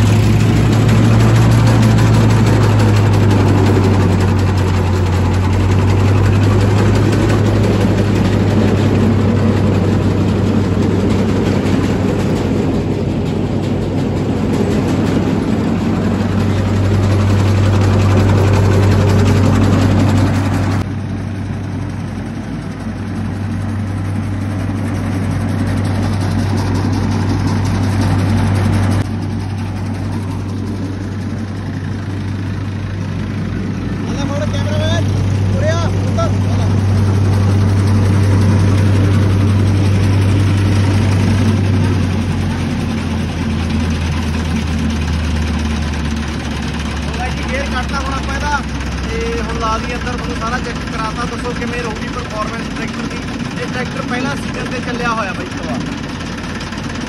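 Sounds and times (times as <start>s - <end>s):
reaper pulleys and rotors turning: 0.0s - 57.0s
tractor engine running steadily: 0.0s - 57.0s.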